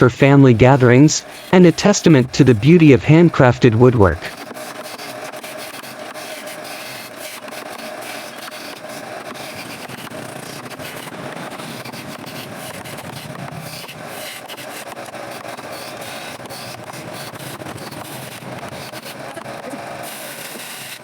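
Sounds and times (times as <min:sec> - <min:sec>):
wood scraping on a lathe: 0:00.0 - 0:21.0.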